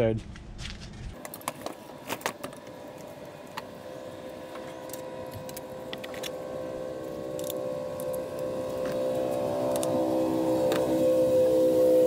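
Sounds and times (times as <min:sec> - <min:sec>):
droning hum of several tones: 0:00.0 - 0:12.0.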